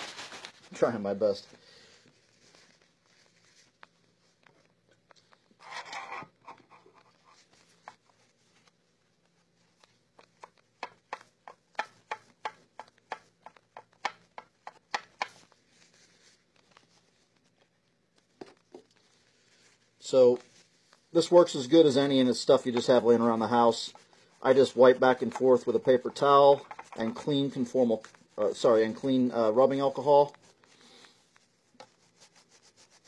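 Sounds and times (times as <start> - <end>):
paper towel scrubbing circuit board: 5.6 - 33.0.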